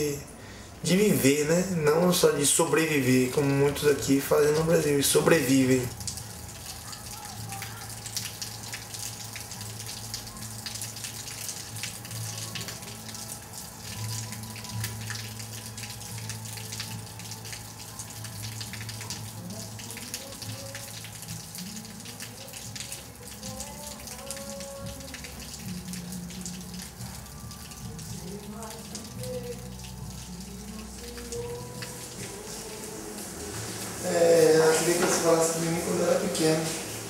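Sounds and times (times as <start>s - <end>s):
low steady hum: 0.0s - 37.0s
rain pattering: 0.0s - 37.0s.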